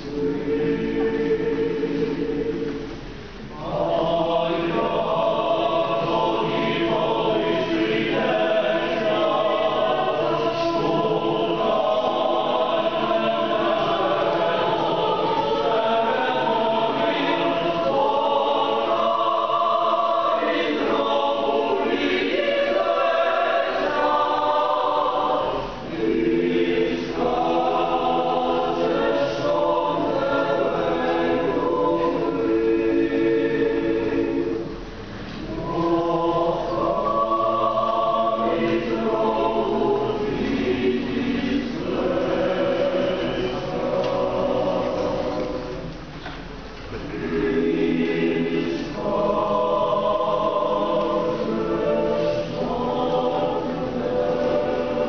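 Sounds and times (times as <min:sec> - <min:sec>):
mixed choir singing a cappella: 0:00.0 - 0:55.0.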